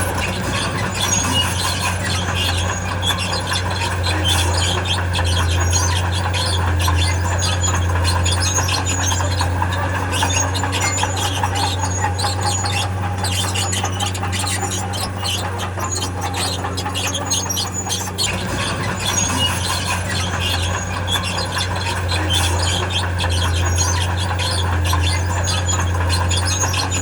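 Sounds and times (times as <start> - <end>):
diesel engine droning: 0.0 - 27.0
steel tracks squealing and clanking: 0.0 - 27.0.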